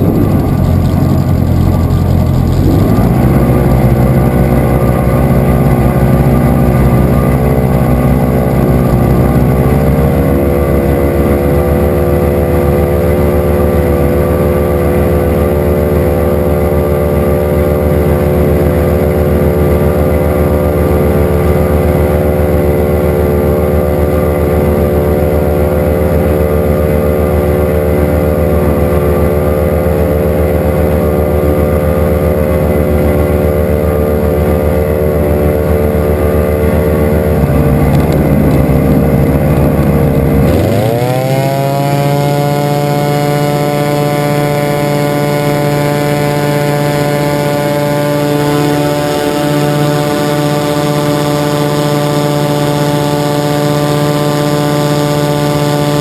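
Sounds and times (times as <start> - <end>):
ultralight engine and propeller running: 0.0 - 56.0.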